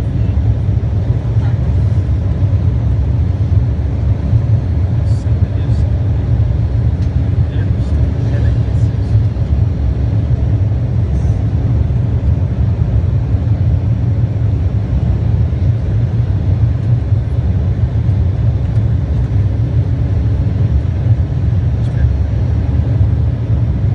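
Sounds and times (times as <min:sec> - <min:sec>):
aeroplane cabin rumble: 0:00.0 - 0:23.9.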